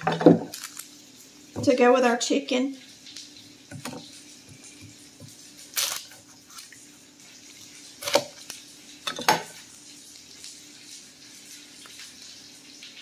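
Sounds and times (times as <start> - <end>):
potatoes frying: 0.0 - 13.0.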